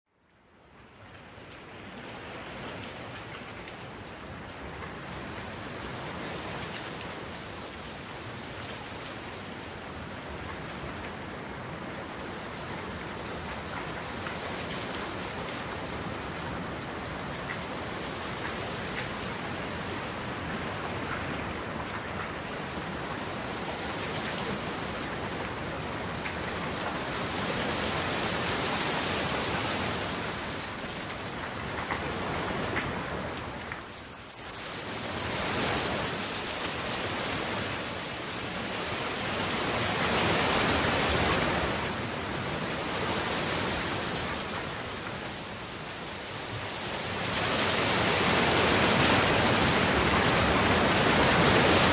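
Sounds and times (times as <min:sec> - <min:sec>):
steady rain hiss: 0:00.1 - 0:51.9.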